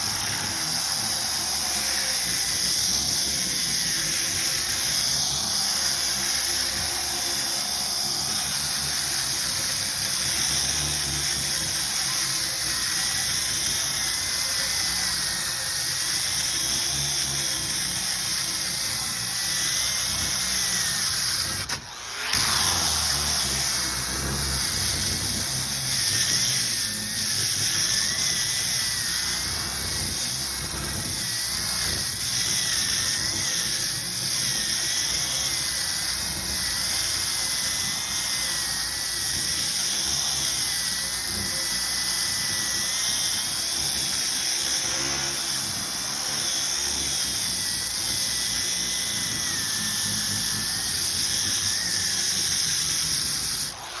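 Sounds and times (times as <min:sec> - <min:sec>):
power tool whining: 0:00.0 - 0:54.0.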